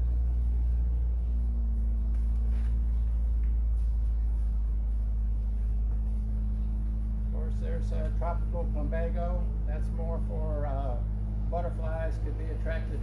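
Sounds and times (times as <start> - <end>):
constant hum: 0.0 - 13.0
low rumble: 0.0 - 13.0.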